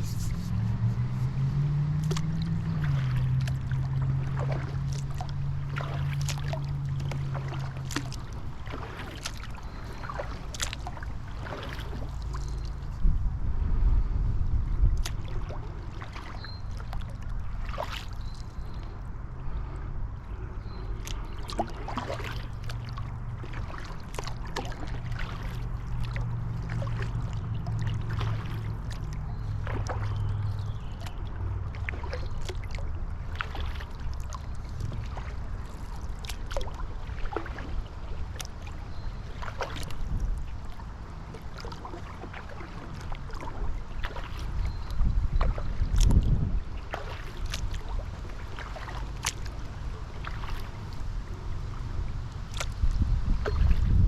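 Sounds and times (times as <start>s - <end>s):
water splashes and drips: 0.0s - 13.2s, 14.6s - 54.0s
wind rumbling on microphone: 0.0s - 54.0s.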